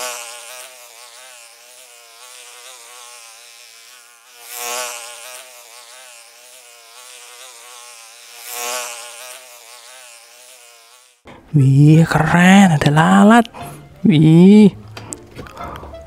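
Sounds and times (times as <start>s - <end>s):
flies buzzing: 0.0s - 14.9s.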